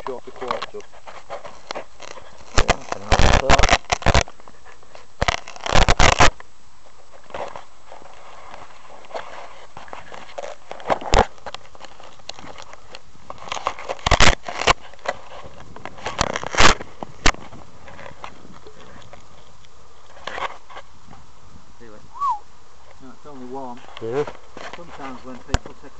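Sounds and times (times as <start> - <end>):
steady hiss: 0.0 - 25.9.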